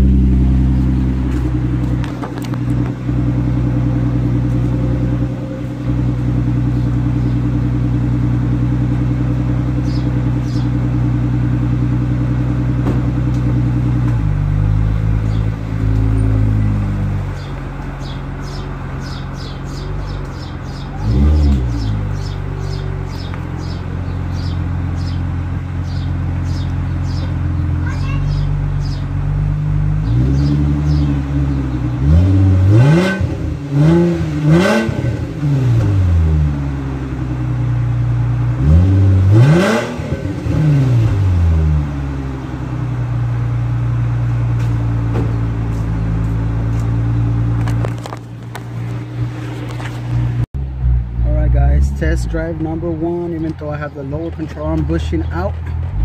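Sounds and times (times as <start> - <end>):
car engine idling: 0.0 - 56.0
engine revving: 0.0 - 56.0.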